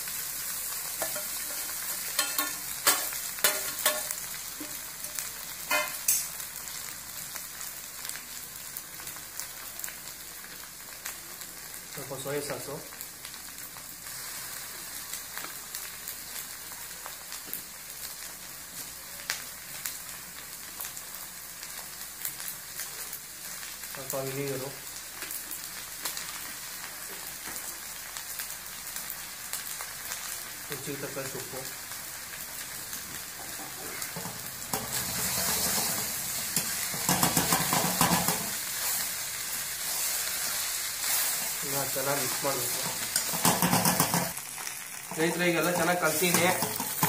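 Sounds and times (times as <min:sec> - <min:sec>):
rice sizzling in a wok: 0:00.0 - 0:47.0.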